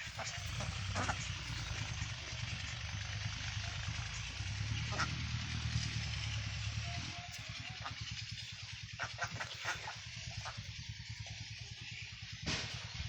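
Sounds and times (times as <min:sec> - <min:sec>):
ducks calling: 0:00.0 - 0:12.8
small engine running: 0:00.0 - 0:13.0.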